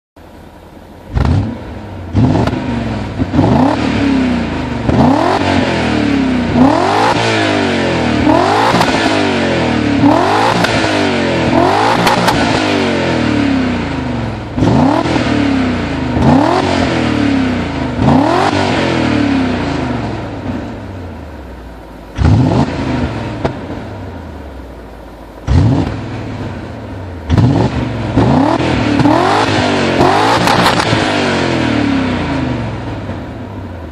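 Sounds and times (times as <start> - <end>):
car engine revving: 1.1 - 33.9.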